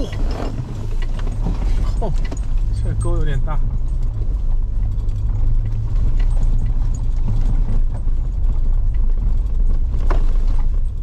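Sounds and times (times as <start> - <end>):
car rattling over ruts: 0.0 - 11.0
tyres and engine rumble: 0.0 - 11.0.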